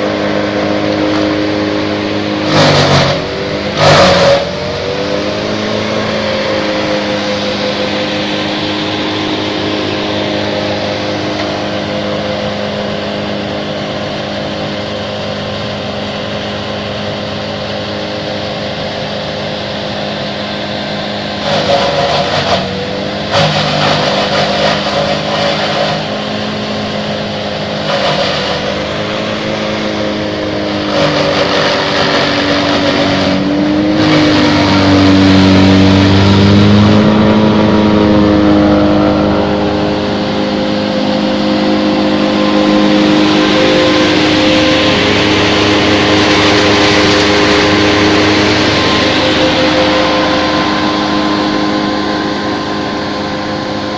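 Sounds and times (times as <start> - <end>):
wood chipper chipping branches: 0.0 - 53.9.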